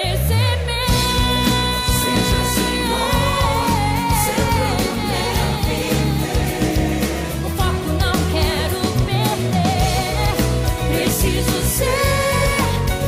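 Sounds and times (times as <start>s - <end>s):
drums and bass: 0.0s - 13.0s
person singing: 0.0s - 13.0s.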